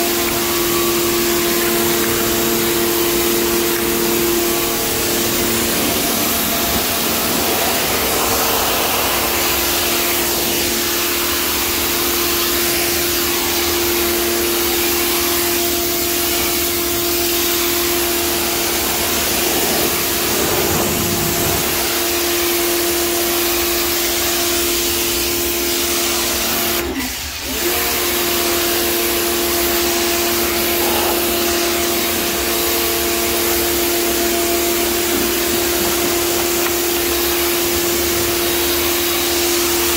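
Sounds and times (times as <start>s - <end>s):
pressure washer motor hum: 0.0s - 39.9s
water jet hissing on tiles: 0.0s - 39.9s.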